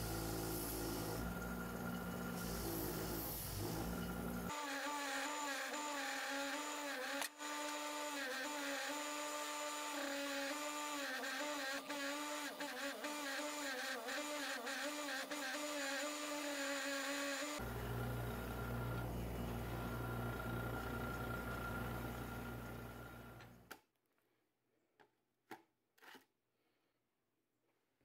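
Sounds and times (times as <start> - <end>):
bench buffer motor humming: 0.0 - 23.6.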